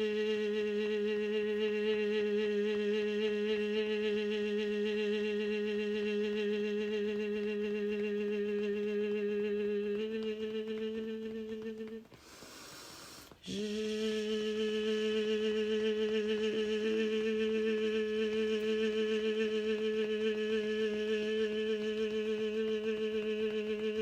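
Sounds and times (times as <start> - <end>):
person singing long tone: 0.0 - 12.1, 13.4 - 24.0.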